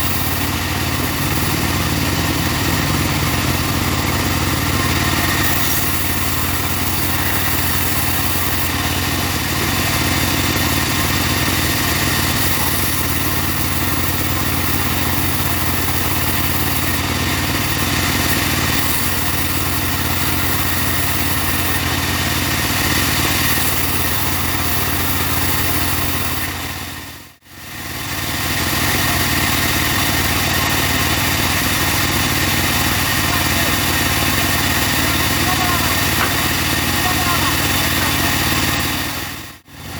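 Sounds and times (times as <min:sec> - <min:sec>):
saw engine running: 0:00.0 - 0:39.9.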